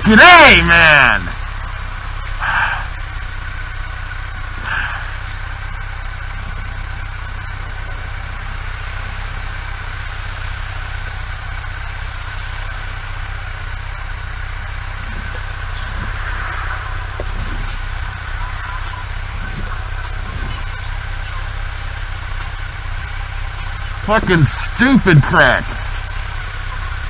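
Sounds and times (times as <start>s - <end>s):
motorcycle engine rumbling: 0.0s - 27.0s
road and wind noise: 0.0s - 27.0s.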